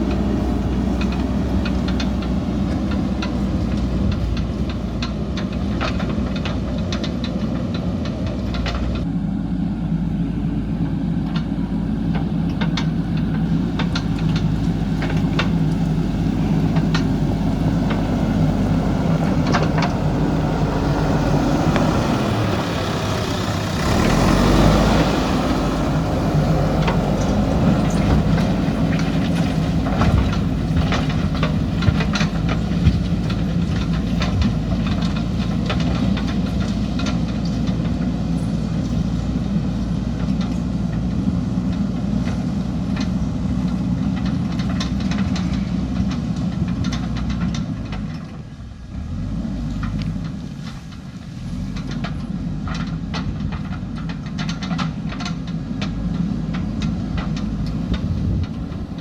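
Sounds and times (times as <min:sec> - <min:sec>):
clanks and knocks: 0:00.0 - 0:09.1, 0:11.2 - 0:48.4, 0:49.8 - 0:59.0
diesel engine running: 0:00.0 - 0:59.0.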